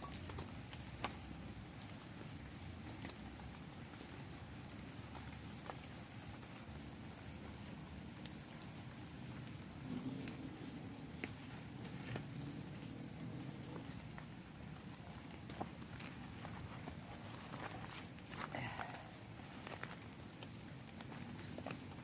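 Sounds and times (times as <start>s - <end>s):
rain and wind low rumble: 0.0s - 22.0s
raindrops tapping on tarp: 0.0s - 22.0s.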